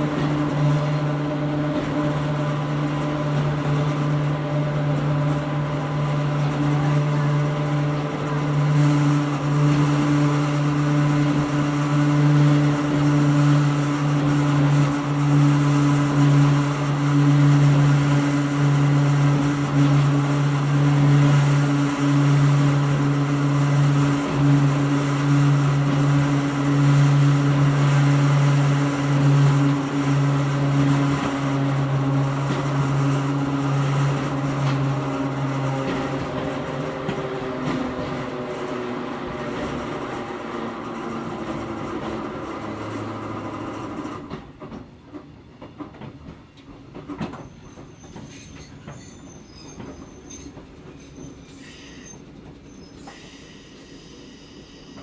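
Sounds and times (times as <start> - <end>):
electric railcar motor whine: 0.0 - 55.0
train running noise: 0.0 - 55.0.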